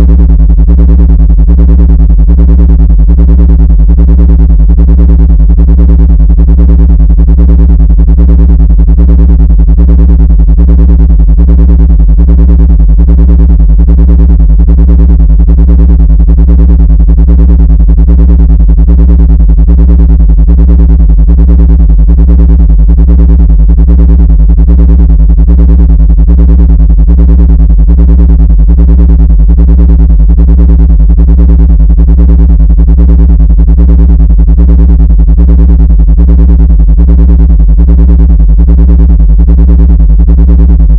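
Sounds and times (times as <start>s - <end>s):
pulsing electronic drone: 0.0s - 40.9s.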